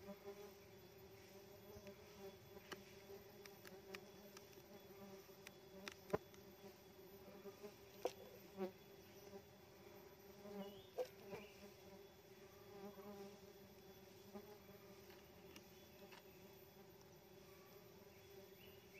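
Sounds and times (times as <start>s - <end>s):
bees humming: 0.0s - 18.9s.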